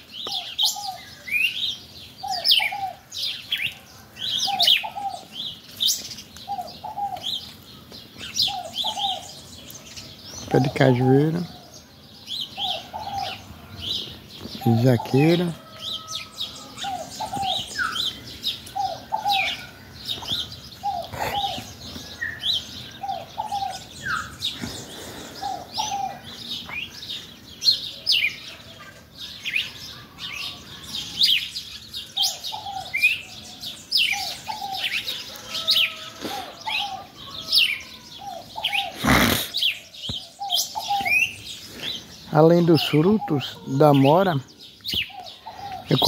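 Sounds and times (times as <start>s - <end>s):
small birds chirping: 0.0s - 46.0s
lower-pitched bird call: 6.4s - 9.7s, 10.4s - 27.0s, 27.6s - 46.0s.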